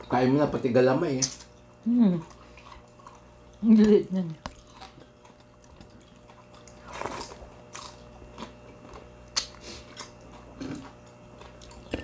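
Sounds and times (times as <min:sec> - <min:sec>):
crunching and chewing food: 0:00.0 - 0:12.0.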